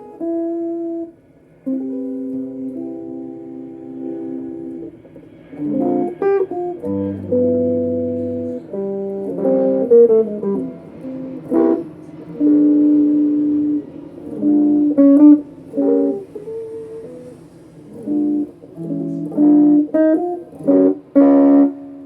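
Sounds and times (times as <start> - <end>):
electric guitar chords and runs: 0.0 - 22.0.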